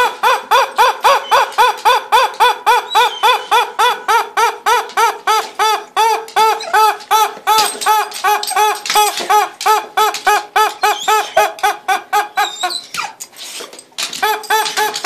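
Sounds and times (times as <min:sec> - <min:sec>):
squeaky toy squawking: 0:00.0 - 0:13.2, 0:14.0 - 0:15.0.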